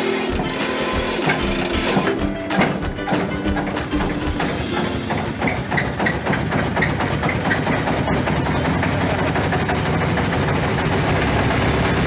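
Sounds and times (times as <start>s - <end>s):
air compressor engine running: 0.0s - 3.2s, 4.0s - 12.0s.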